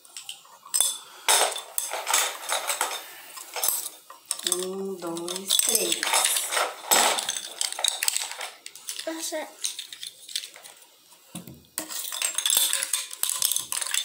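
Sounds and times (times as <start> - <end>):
toy blocks clattering on stone: 0.0 - 11.0, 11.8 - 14.0.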